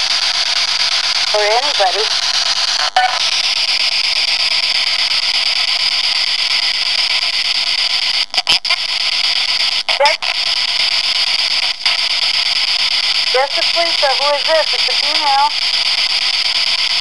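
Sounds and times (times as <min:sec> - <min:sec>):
loud radio static hiss: 0:00.0 - 0:17.0.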